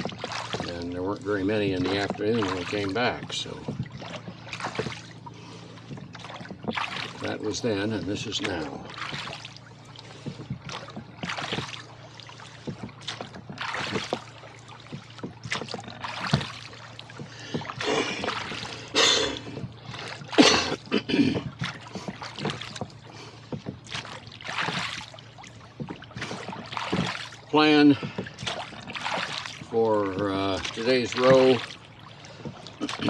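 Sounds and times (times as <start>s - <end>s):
oars splashing in water: 0.0s - 33.0s
steady low hum: 0.0s - 33.0s.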